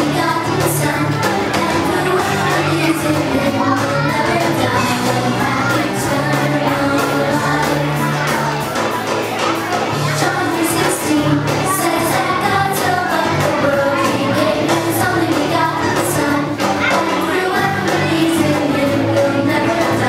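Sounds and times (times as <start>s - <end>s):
upbeat pop song group singing: 0.0s - 8.8s, 10.0s - 20.0s.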